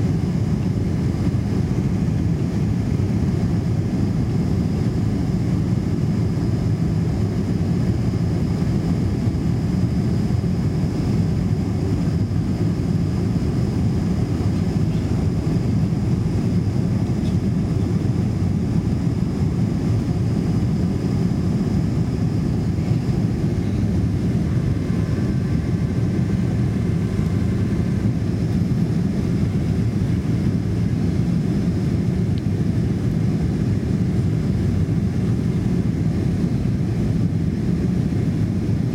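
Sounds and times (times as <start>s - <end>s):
jet cabin rumble: 0.0s - 38.9s.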